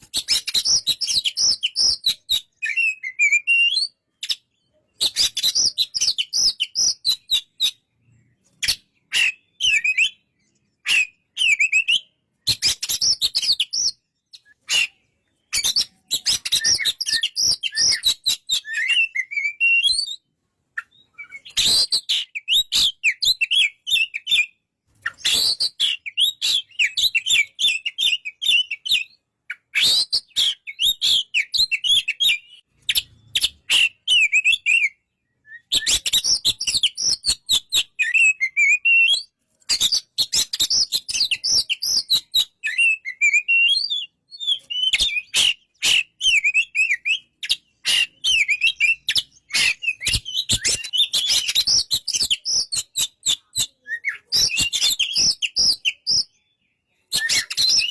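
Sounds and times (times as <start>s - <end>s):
bird singing whistled notes: 0.0s - 57.9s.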